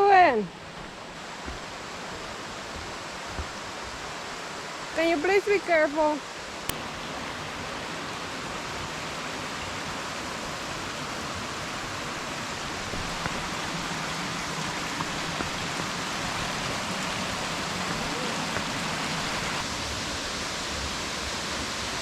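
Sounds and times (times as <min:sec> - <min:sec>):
creek and waterfall rushing: 0:00.0 - 0:22.0.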